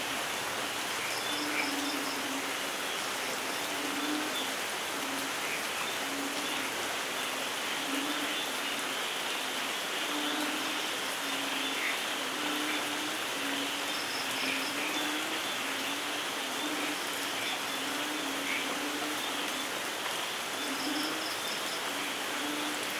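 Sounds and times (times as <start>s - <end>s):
steady rainfall: 0.0s - 22.9s.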